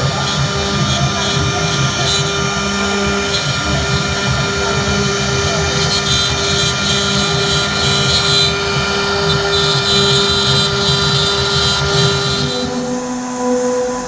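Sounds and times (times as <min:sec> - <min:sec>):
router spindle whining while cutting: 0:00.0 - 0:13.2.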